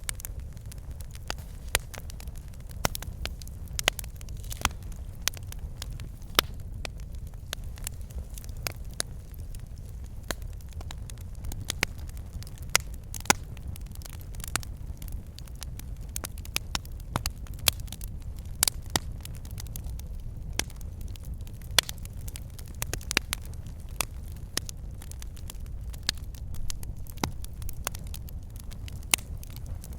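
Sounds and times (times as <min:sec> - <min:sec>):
fire crackling and popping: 0:00.0 - 0:29.9
low rumble of flames: 0:00.0 - 0:29.9.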